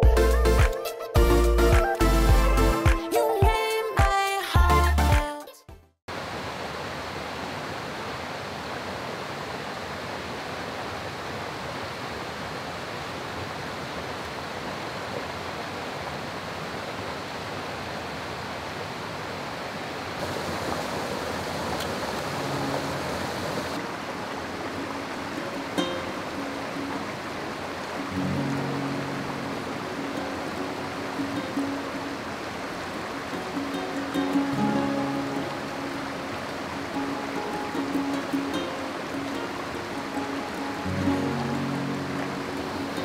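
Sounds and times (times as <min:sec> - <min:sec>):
stream rushing over rocks: 0:06.1 - 0:43.0.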